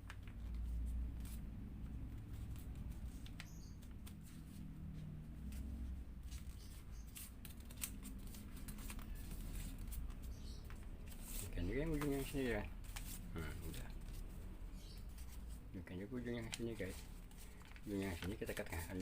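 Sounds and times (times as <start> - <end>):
paper folding and creasing: 0.0 - 19.0.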